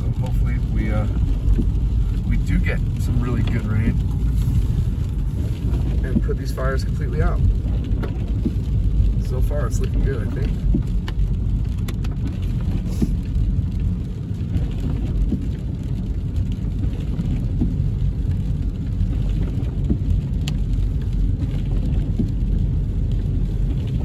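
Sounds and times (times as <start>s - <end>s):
car engine rumble: 0.0s - 24.0s
rain pattering on windshield: 0.0s - 24.0s
tyres on wet road: 0.0s - 24.0s.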